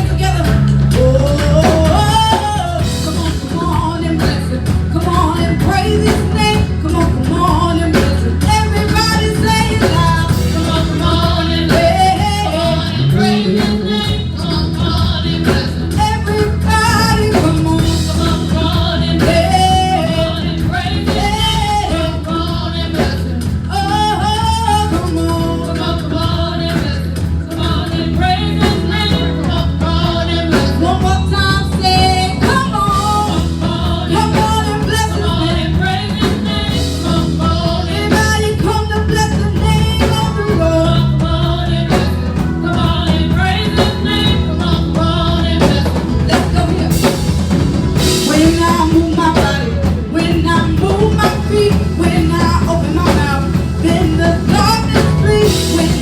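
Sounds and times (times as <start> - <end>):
band playing: 0.0 - 56.0
bass line: 0.0 - 56.0
voices singing: 0.0 - 56.0.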